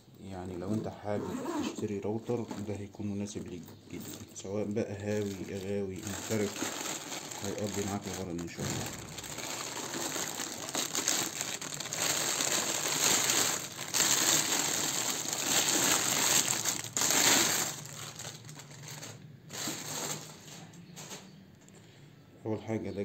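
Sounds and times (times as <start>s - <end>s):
plastic bag crinkling and rustling: 1.7s - 21.3s.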